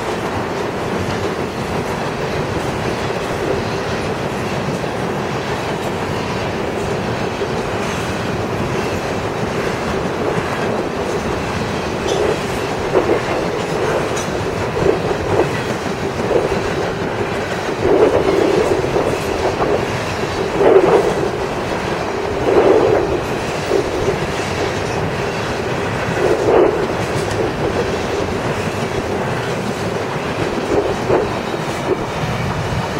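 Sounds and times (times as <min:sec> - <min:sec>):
freight train wheels rumbling on rails: 0:00.0 - 0:32.9.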